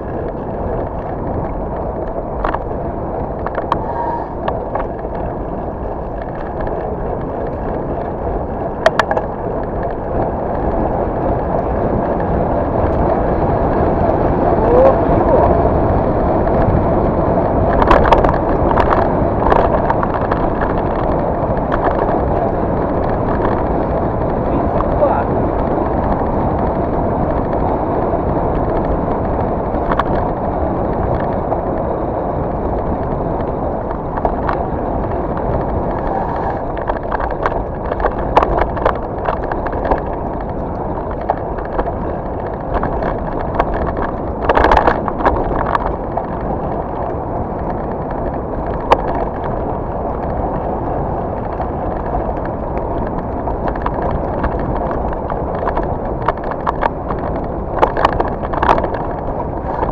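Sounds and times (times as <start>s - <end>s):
bike knocks and rattles: 0.0s - 14.2s, 15.8s - 59.9s
tyre and wind rush: 0.0s - 59.9s.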